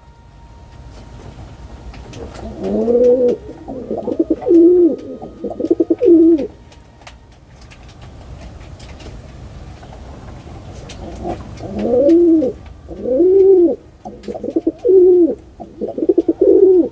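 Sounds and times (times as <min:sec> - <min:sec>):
pigeon cooing: 0:00.0 - 0:16.9.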